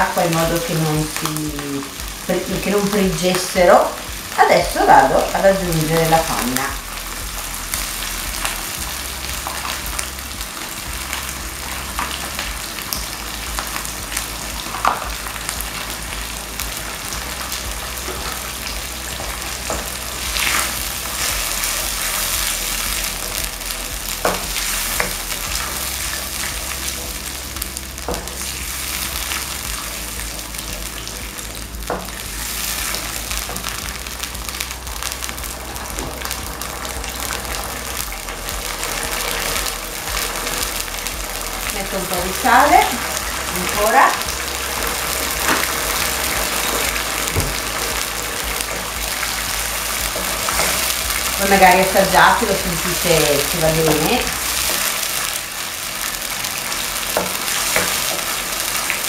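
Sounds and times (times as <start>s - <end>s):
mushrooms sizzling in a frying pan: 0.0s - 59.0s.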